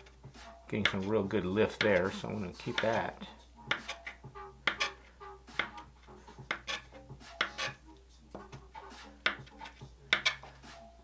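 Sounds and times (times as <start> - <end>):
palette knife scraping and tapping: 0.8 - 10.6.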